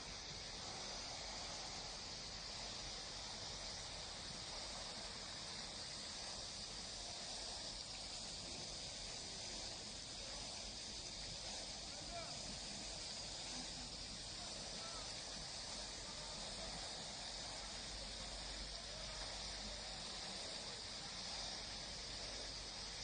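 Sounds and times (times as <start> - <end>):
insect chorus: 0.0 - 23.0
soft hiss: 0.0 - 23.0.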